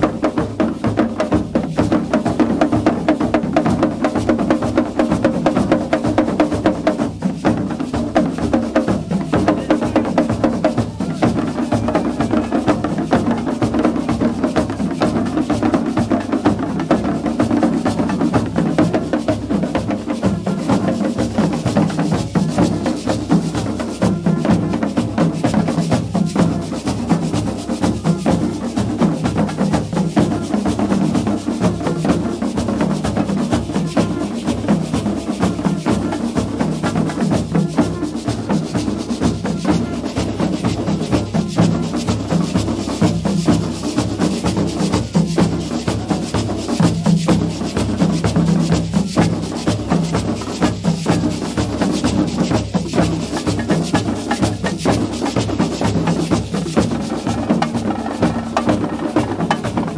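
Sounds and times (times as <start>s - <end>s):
drum band beating skin drums: 0.0s - 59.9s.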